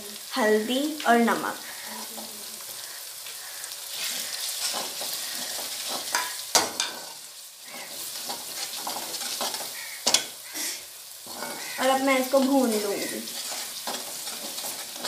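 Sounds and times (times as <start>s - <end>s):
spices sizzling in hot oil: 0.0s - 15.0s
metal spoon scraping a pan: 1.6s - 15.0s.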